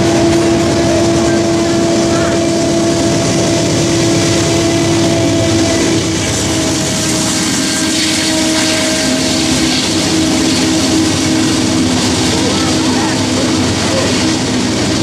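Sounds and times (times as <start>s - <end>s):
coal cars rumbling on rails: 0.0s - 15.0s
diesel locomotive engine drone: 0.0s - 15.0s.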